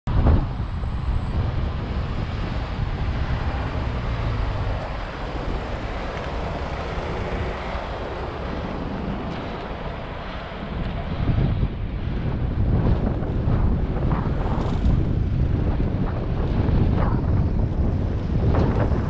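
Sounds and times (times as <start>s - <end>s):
road traffic: 0.1s - 19.0s
wind on microphone: 0.1s - 19.0s.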